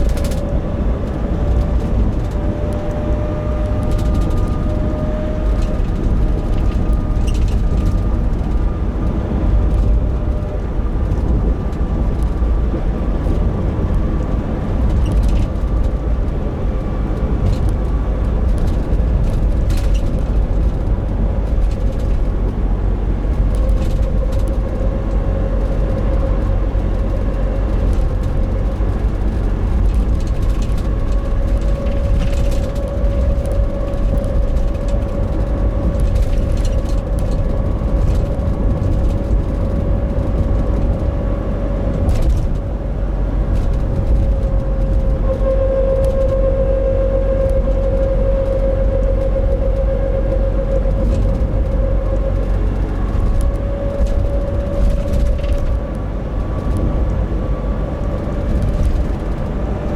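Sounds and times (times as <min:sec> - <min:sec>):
droning hum: 0:00.0 - 0:59.9
van road and engine rumble: 0:00.0 - 0:59.9.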